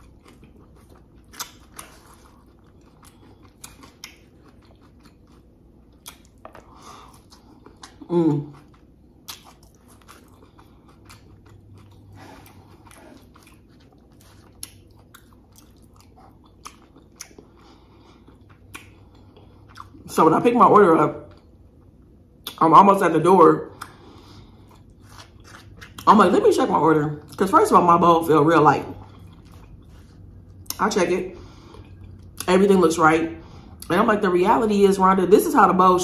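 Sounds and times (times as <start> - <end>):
chewing and crunching food: 0.0 - 20.2, 23.7 - 32.6.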